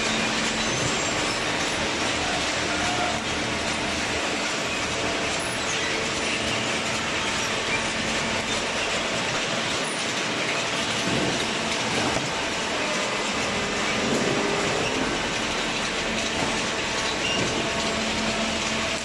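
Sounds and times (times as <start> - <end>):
steady machinery noise: 0.0 - 19.0.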